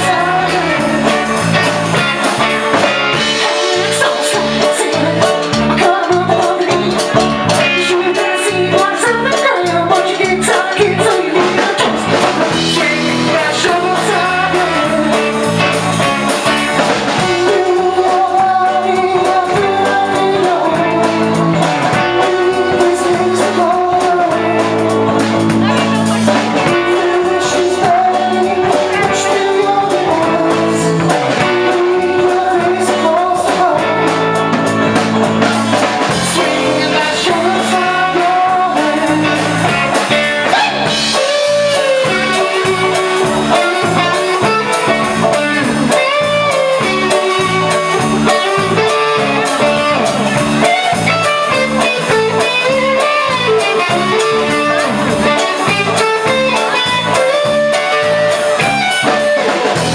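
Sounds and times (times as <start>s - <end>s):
banjo: 0.0s - 59.9s
drum kit beat: 0.0s - 59.9s
electric guitar: 0.0s - 59.9s
wavering melodic lead line: 0.0s - 59.9s.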